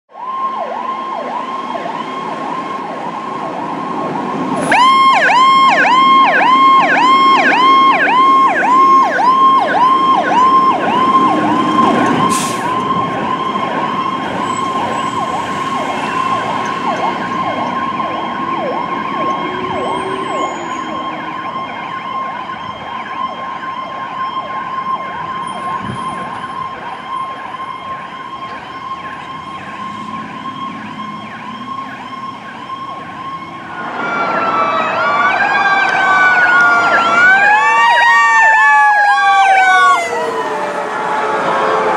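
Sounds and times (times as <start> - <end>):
siren steady high tone: 0.1 - 41.9
siren sweeping up and down: 0.1 - 41.9.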